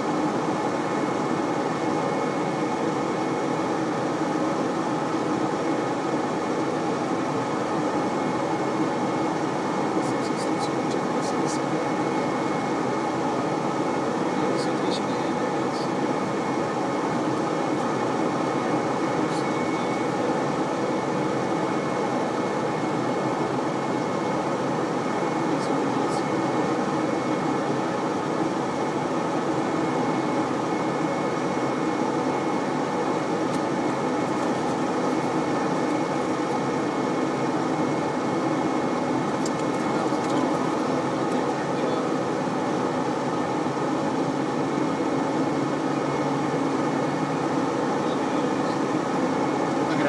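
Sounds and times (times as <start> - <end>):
faint high whine: 0.0 - 50.0
machinery hum: 0.0 - 50.0.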